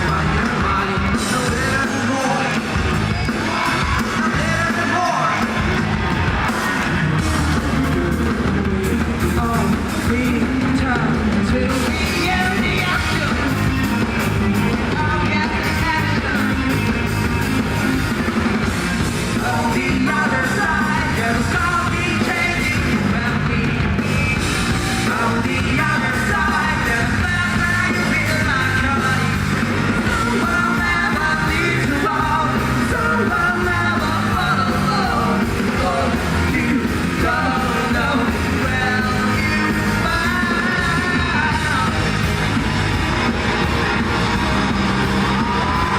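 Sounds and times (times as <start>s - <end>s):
person singing: 0.0s - 17.9s, 19.2s - 42.5s
live rock band playing: 0.0s - 45.9s.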